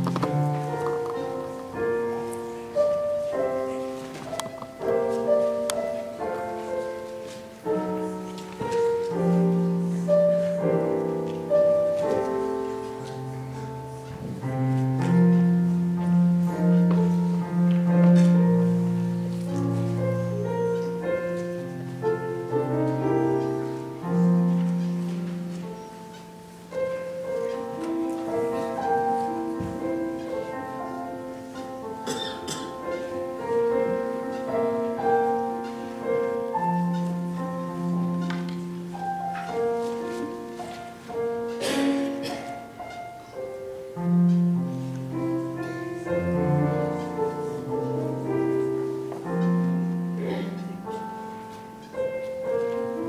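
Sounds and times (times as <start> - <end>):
solo piano music: 0.0 - 53.0.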